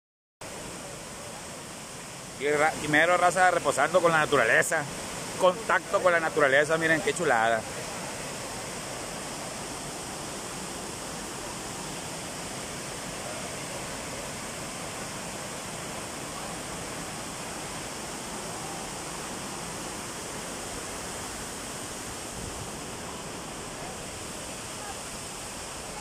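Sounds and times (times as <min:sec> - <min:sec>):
waterfall rushing: 0:00.4 - 0:26.0.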